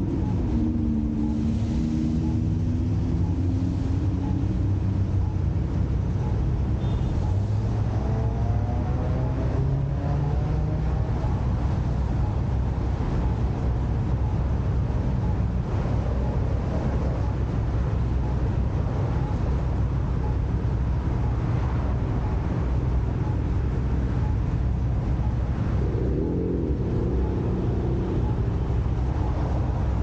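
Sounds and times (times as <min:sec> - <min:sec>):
road and traffic noise: 0:00.0 - 0:30.0.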